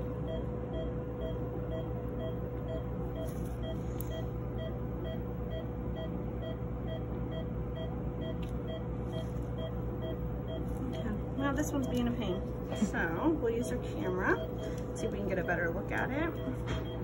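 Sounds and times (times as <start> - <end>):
electrical hum: 0.0 - 17.0
patient monitor beeping: 0.0 - 17.0.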